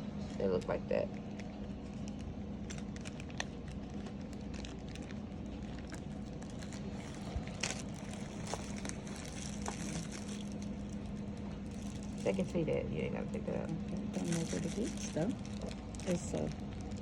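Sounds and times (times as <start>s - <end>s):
low hum: 0.0s - 17.0s
plastic packaging crinkling: 0.2s - 17.0s.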